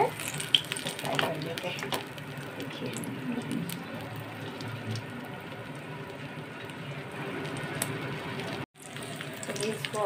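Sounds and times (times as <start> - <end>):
food deep-frying in hot oil: 0.0 - 10.0.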